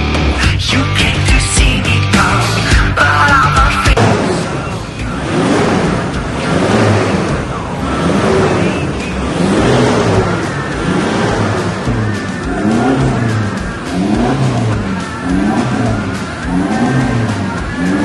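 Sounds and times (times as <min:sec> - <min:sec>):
pickup engine revving: 0:00.0 - 0:18.0.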